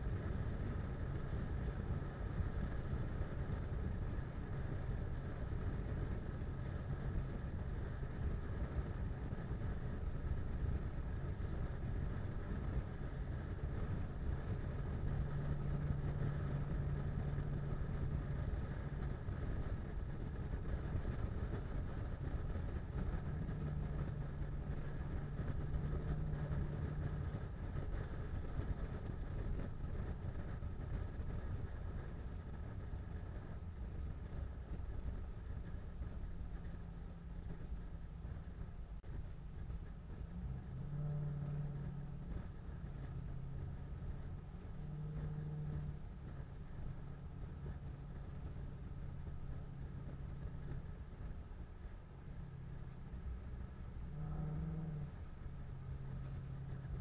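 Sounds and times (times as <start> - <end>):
car road and engine noise: 0.0 - 57.0
low hum: 0.0 - 57.0.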